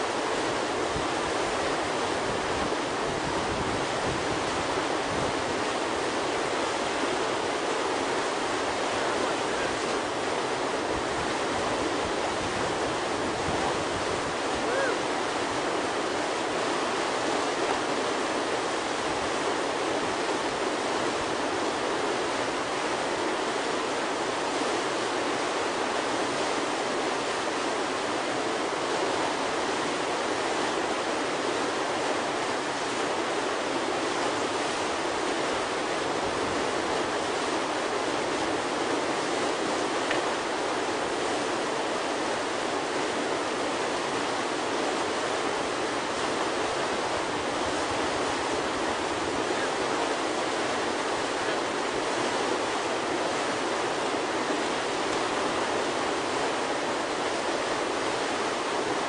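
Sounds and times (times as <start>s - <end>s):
whitewater roaring: 0.0s - 59.0s.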